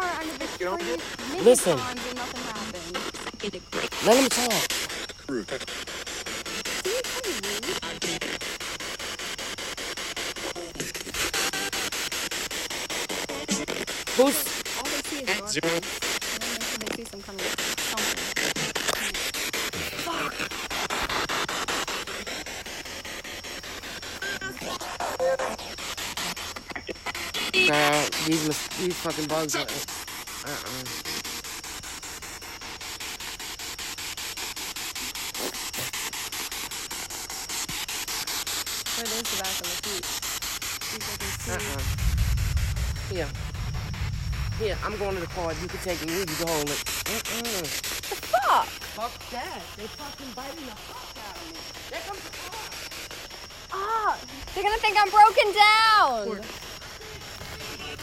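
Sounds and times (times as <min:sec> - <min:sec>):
radio broadcast fragments: 0:00.0 - 0:33.1, 0:34.8 - 0:58.0
pulsing radio static: 0:00.0 - 0:58.0.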